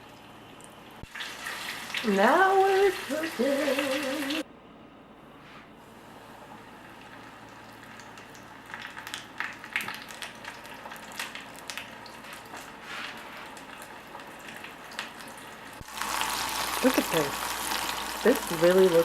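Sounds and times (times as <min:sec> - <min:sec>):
oil sizzling: 0:00.0 - 0:04.4, 0:06.1 - 0:19.0.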